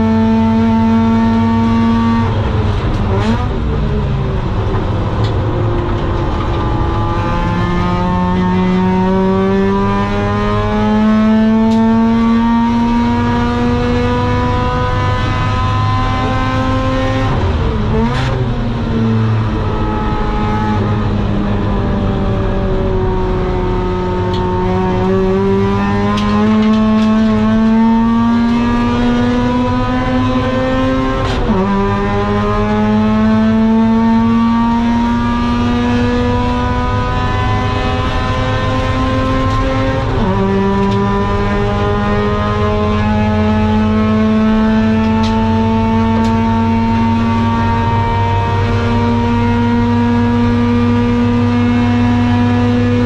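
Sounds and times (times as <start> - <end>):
rotary engine revving: 4.4 - 21.7, 22.3 - 53.0.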